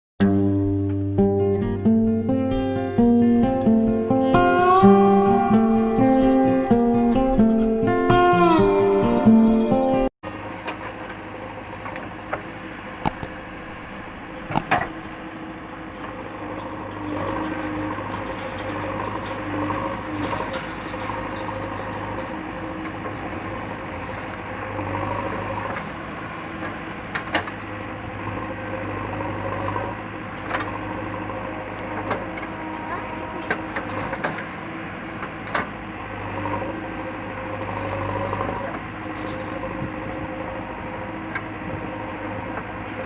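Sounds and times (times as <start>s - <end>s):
diesel engine running: 0.2s - 43.0s.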